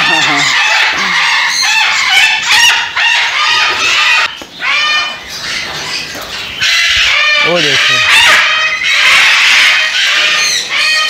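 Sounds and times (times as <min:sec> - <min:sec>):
parrots screeching: 0:00.0 - 0:11.0.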